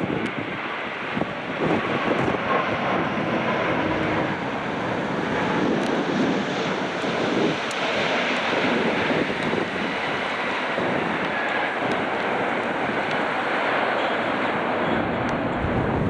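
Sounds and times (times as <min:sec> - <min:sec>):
jet engine rushing: 0:00.0 - 0:16.0
wind buffeting microphone: 0:00.0 - 0:16.0.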